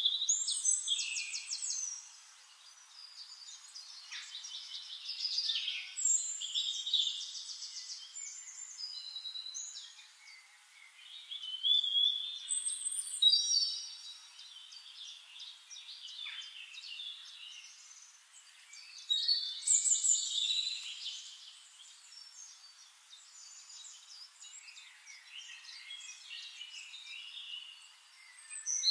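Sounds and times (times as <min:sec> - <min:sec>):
birds chirping and trilling: 0:00.0 - 0:28.9.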